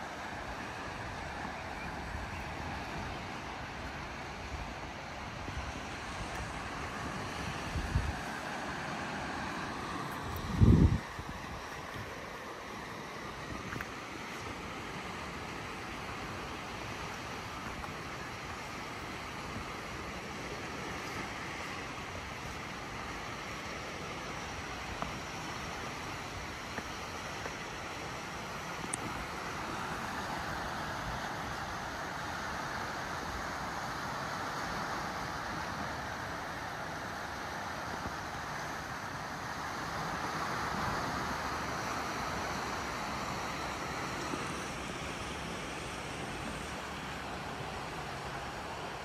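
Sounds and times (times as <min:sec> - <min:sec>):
sea waves washing on shore: 0:00.0 - 0:49.0.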